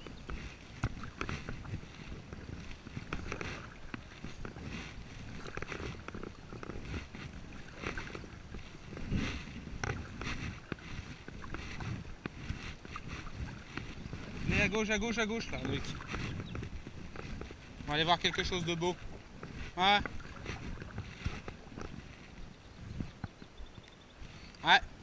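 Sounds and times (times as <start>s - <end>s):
kayak paddle strokes in water: 0.0s - 25.0s.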